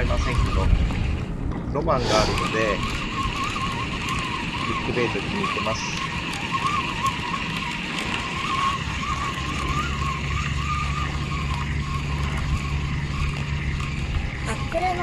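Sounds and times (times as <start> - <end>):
low engine hum: 0.0 - 15.0
thin wavering whine: 0.0 - 15.0.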